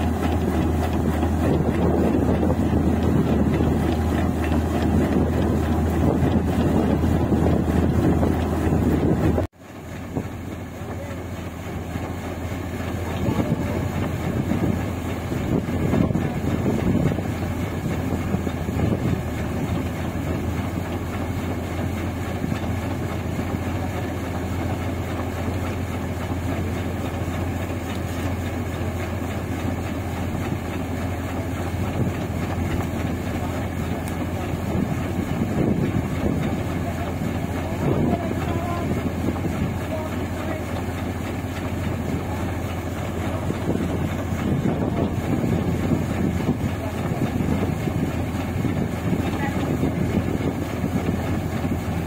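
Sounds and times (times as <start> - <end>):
harvester engine and auger humming: 0.0 - 52.0.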